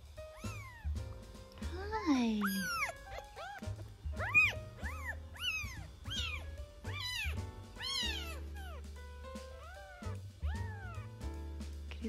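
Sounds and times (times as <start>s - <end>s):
kitten mewing: 0.2s - 11.2s.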